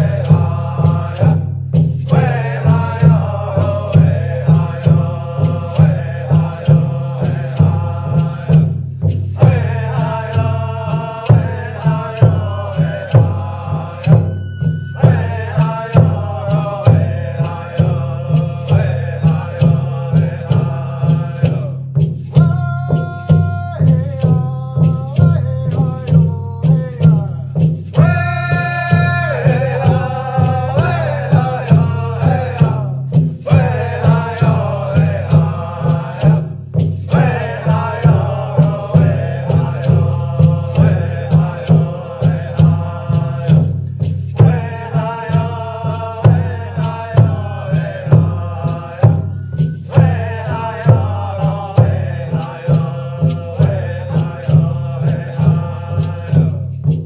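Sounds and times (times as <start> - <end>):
chanted singing: 0.0 - 27.4, 28.0 - 56.8
steady drum beat: 0.0 - 57.0.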